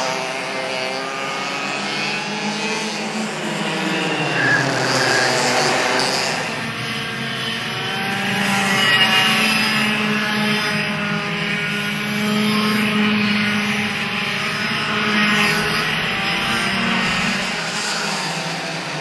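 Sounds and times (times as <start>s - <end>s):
racing kart engines buzzing: 0.0s - 19.0s.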